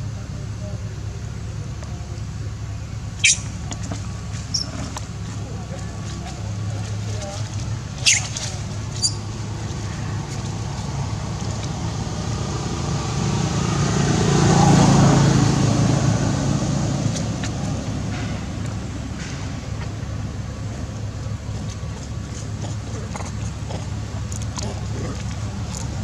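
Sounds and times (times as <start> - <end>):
motor vehicle passing by: 3.2 - 26.0.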